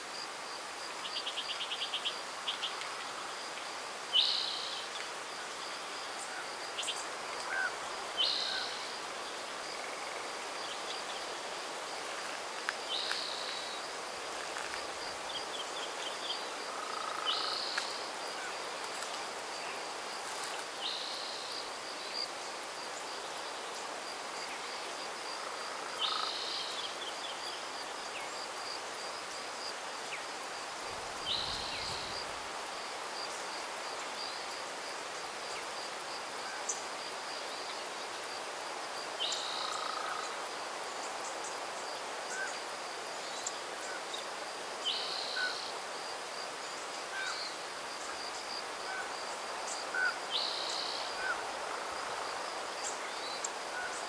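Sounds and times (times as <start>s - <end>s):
breeze hiss: 0.0s - 54.0s.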